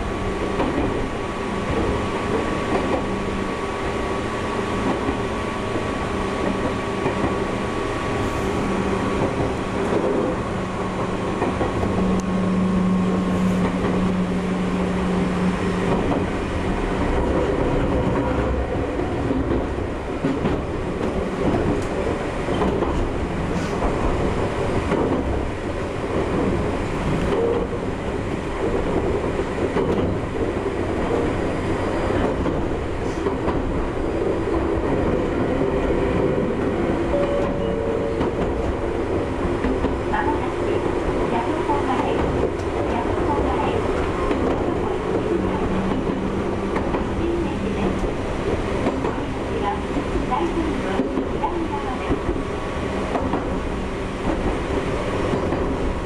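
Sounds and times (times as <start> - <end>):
electric train running hum: 0.0 - 56.0.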